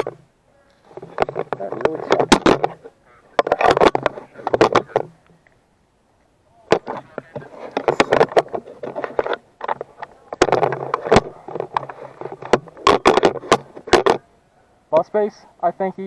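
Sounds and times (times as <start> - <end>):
camera rattling in mount: 0.0 - 5.6, 6.7 - 14.3.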